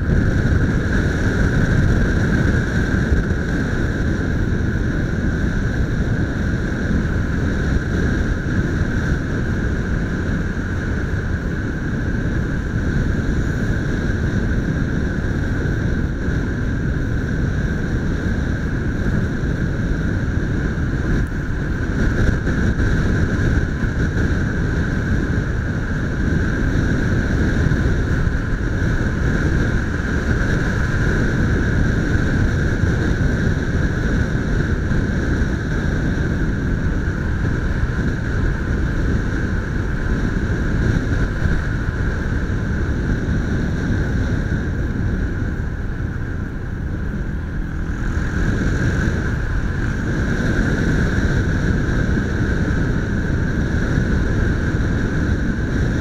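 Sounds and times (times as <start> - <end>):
motorcycle engine running: 0.0 - 56.0
steady high whine: 0.0 - 56.0
wind rush on microphone: 0.0 - 56.0.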